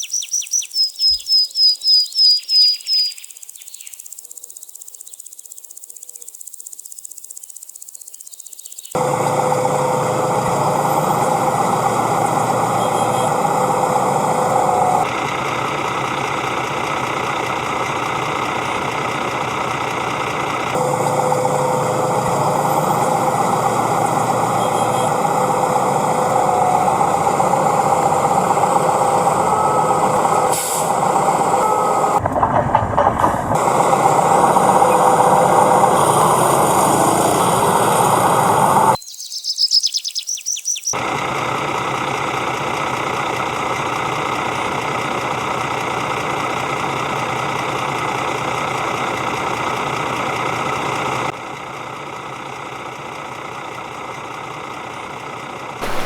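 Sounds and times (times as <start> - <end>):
engine running steadily: 8.9 - 39.0, 41.0 - 56.0.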